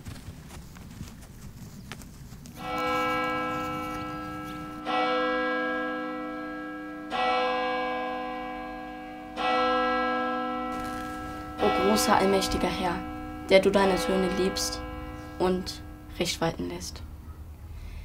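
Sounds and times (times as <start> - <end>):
church bell tolling: 2.6 - 17.2.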